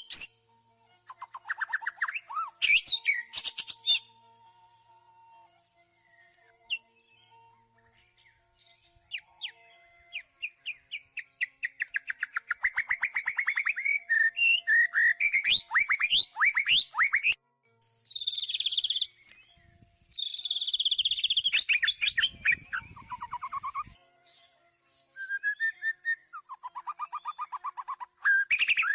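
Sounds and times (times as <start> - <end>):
bird singing whistled notes: 0.0 - 17.4, 18.0 - 28.9
bird high trills: 1.1 - 17.4, 18.1 - 24.0, 25.2 - 28.9.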